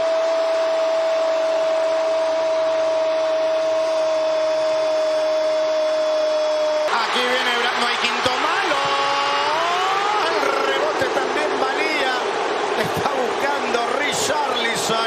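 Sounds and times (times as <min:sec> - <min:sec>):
stadium crowd cheering: 0:00.0 - 0:15.0.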